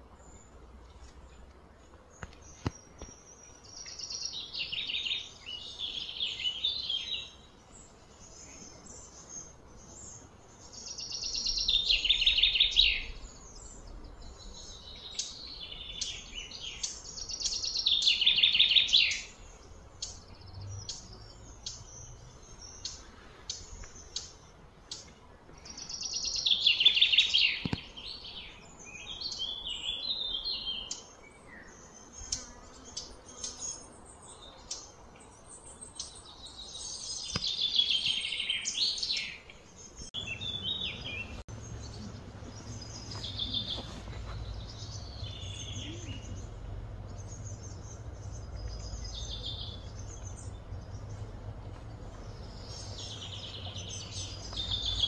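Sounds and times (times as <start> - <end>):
bird chirps: 2.1 - 55.0.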